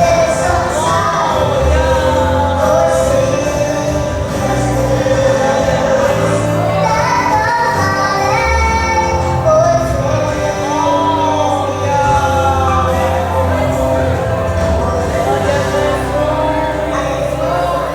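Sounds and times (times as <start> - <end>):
high solo voice singing: 0.0 - 17.9
sustained low instrumental notes: 0.0 - 17.9.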